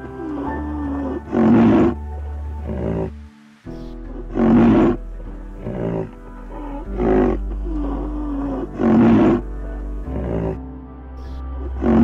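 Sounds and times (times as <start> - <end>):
background music with low drone: 0.0 - 12.0
large animal roaring: 0.2 - 3.2, 3.8 - 10.6, 11.6 - 12.0.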